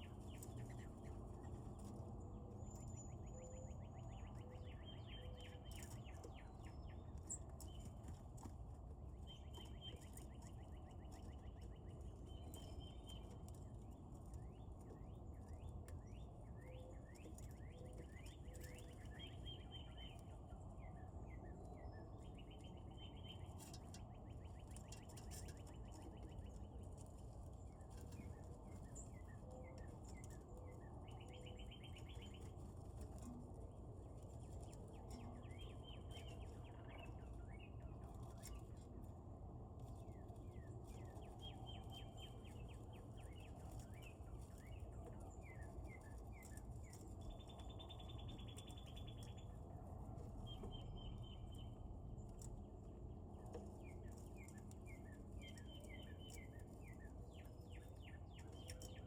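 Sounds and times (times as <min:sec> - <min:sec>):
low background rumble: 0:00.0 - 0:59.0
songbirds singing: 0:00.0 - 0:59.0.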